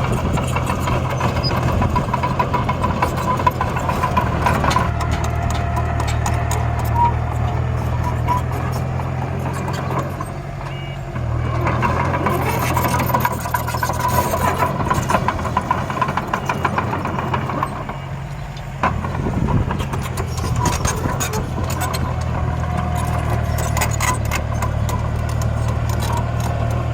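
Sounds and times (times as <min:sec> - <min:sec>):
construction machine engine running: 0:00.0 - 0:26.9.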